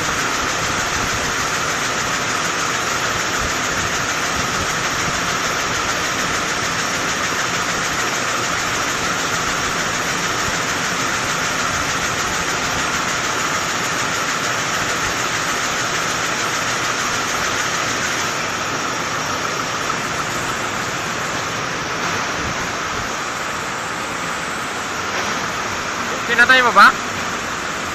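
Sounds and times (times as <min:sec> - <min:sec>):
welding machine mechanical rush: 0:00.0 - 0:27.9.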